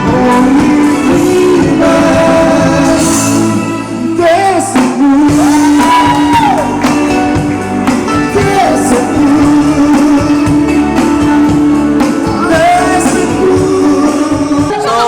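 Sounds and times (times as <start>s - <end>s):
live pop-rock band: 0.0s - 15.0s
person singing: 0.0s - 15.0s.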